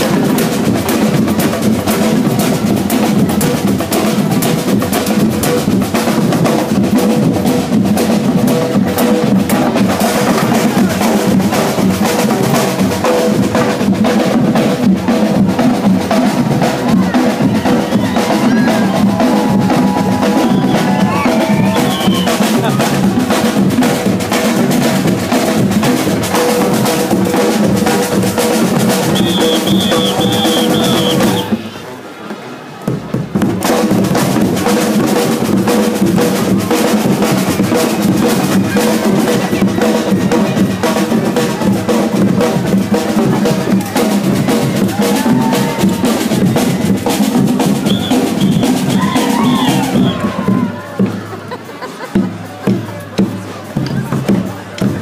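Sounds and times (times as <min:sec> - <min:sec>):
snare and bass drumming: 0:00.0 - 0:31.7, 0:32.8 - 0:55.0.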